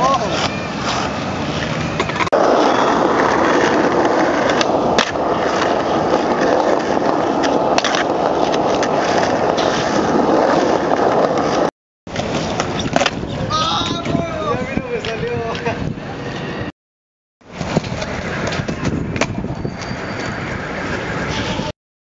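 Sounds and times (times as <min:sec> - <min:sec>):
skateboard wheels rolling on stone: 0:00.0 - 0:16.7, 0:17.4 - 0:21.7.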